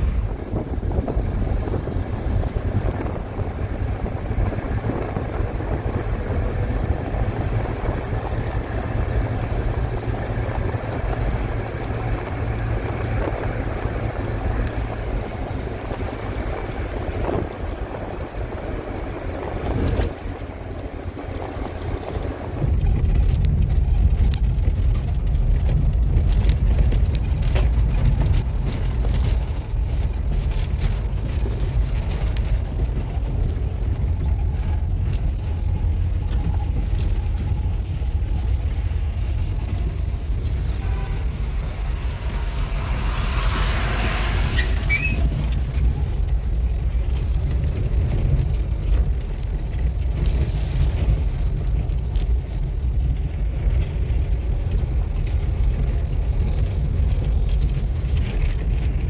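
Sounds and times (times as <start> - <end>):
car cabin road rumble: 0.0 - 59.0
car rattling on dirt track: 0.0 - 59.0.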